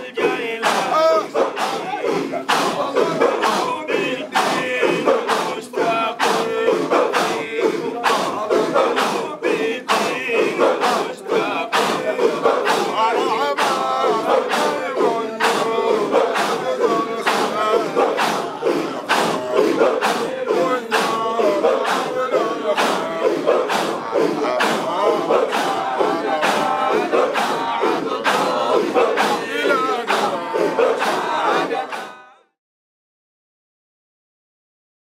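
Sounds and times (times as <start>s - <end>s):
crowd chanting: 0.0s - 32.6s.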